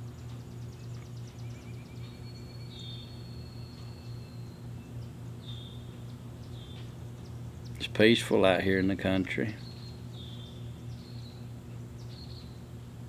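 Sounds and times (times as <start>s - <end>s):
birds chirping and whistling: 0.0s - 8.0s, 9.5s - 12.7s
steady low hum: 0.0s - 13.0s.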